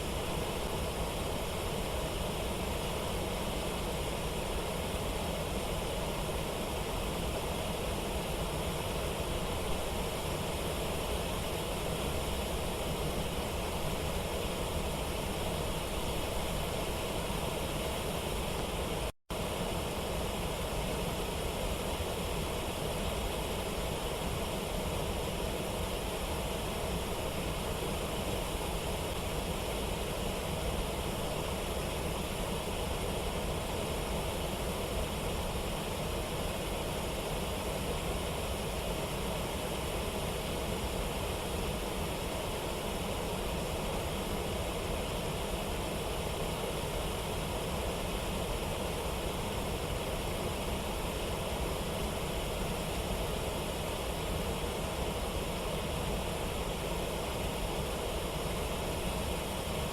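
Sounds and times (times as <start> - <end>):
waterfall and river rapids: 0.0 - 59.9.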